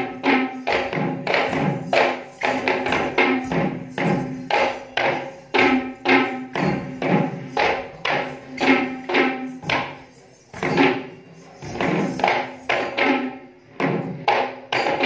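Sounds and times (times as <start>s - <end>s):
hand drums beaten fast: 0.0s - 15.0s.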